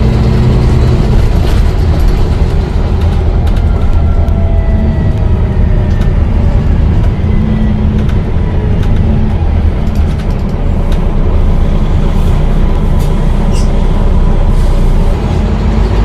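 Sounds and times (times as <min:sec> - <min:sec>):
bus engine low rumble: 0:00.0 - 0:16.0.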